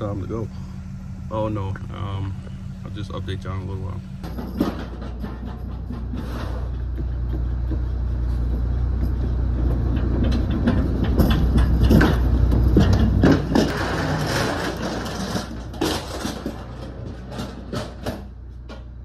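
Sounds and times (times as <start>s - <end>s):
pallet jack wheels rumbling: 0.0s - 19.0s
steady low hum: 0.0s - 19.0s.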